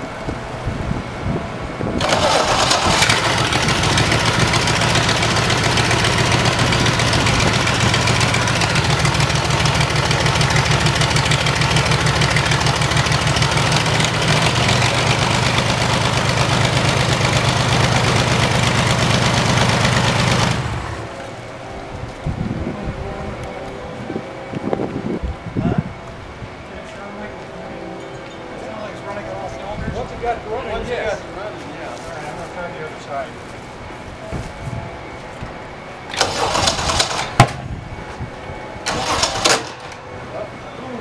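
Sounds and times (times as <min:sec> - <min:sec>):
aircraft engine running: 0:00.0 - 0:41.0.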